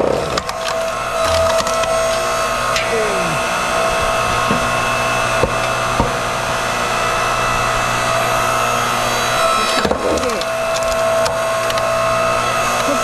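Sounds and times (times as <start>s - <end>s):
log creaking and cracking: 0.0s - 12.0s
log splitter motor humming: 0.0s - 13.0s.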